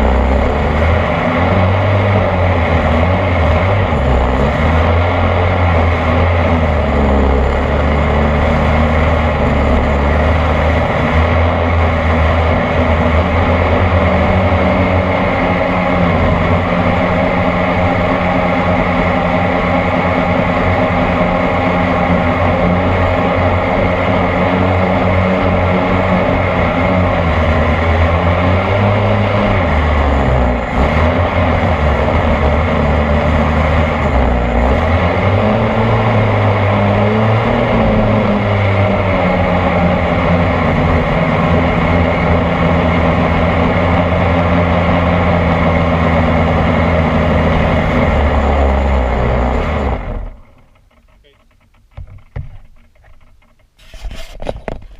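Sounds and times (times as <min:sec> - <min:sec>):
two-stroke boat engine running hard: 0:00.0 - 0:53.2.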